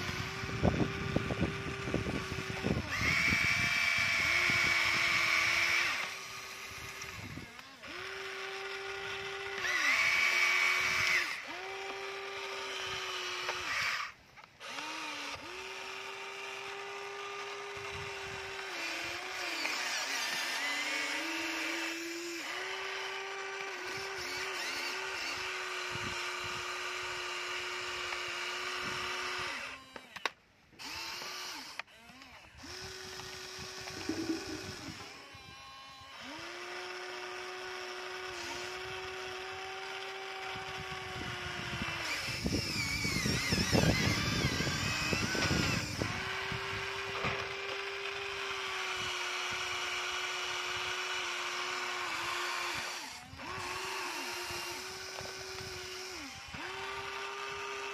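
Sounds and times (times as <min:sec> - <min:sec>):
toy excavator electric motors whining: 0:00.0 - 0:57.9.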